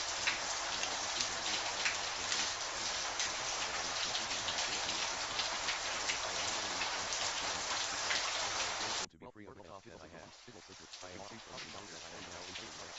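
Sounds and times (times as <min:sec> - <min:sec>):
raindrops striking close by: 0:00.0 - 0:12.9
steady rain hiss: 0:00.0 - 0:12.9.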